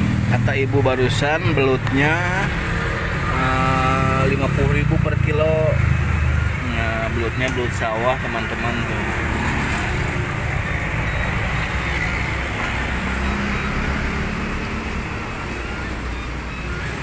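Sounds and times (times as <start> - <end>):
faint engine drone: 0.0 - 17.0
road traffic rumble: 0.0 - 17.0.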